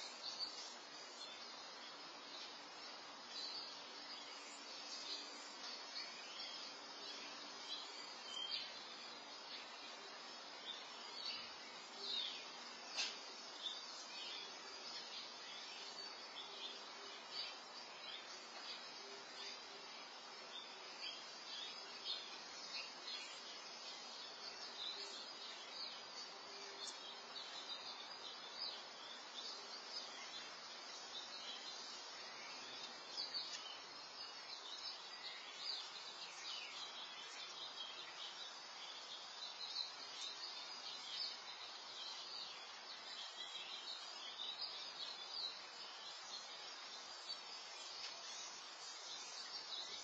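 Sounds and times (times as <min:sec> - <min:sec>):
background hiss: 0:00.0 - 0:50.0
small birds chirping: 0:00.0 - 0:50.0.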